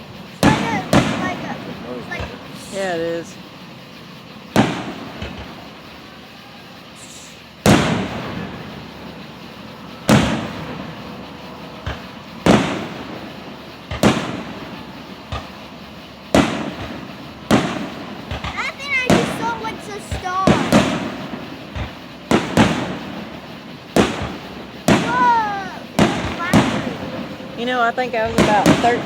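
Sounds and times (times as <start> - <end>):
firework shells bursting: 0.0 - 29.0
small firework pops: 0.0 - 29.0.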